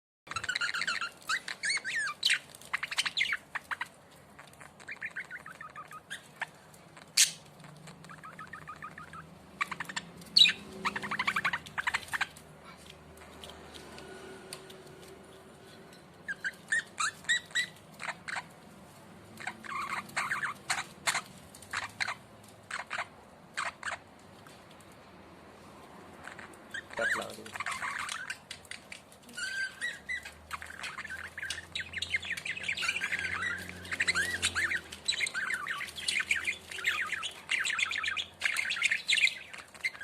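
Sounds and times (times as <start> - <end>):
budgerigar chirping and warbling: 0.3 - 12.4, 16.2 - 18.6, 19.3 - 24.1, 26.2 - 40.0.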